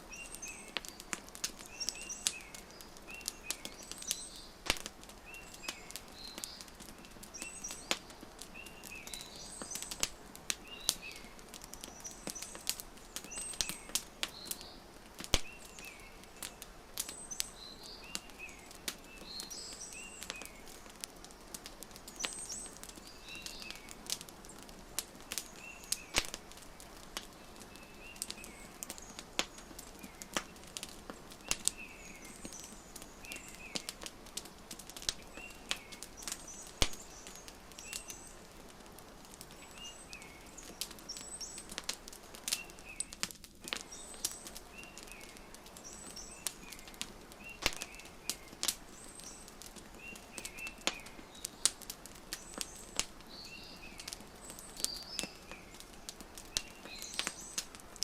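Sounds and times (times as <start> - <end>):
small birds chirping: 0.0 - 58.0
wood fire crackling and popping: 0.0 - 58.0.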